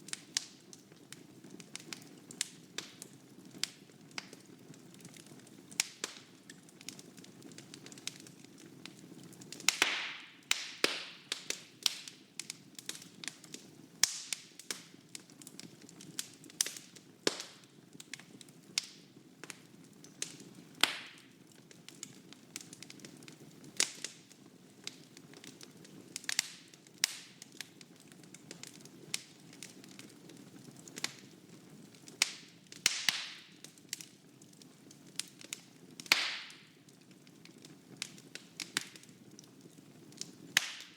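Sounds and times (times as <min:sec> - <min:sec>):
low fire rumble: 0:00.0 - 0:09.8, 0:10.5 - 0:40.6
fire crackling and popping: 0:00.0 - 0:40.9.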